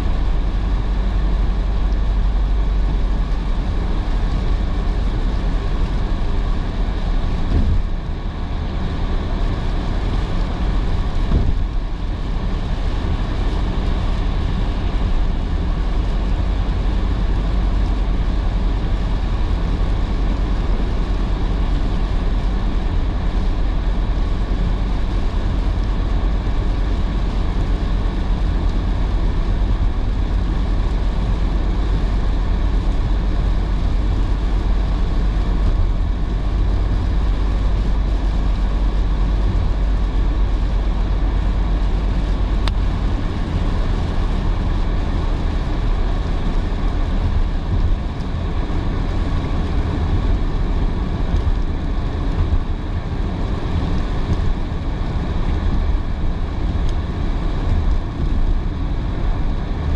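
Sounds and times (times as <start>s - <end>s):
rain: 0.0s - 59.9s
road and engine rumble: 0.0s - 59.9s
tyres hissing on wet road: 0.0s - 59.9s.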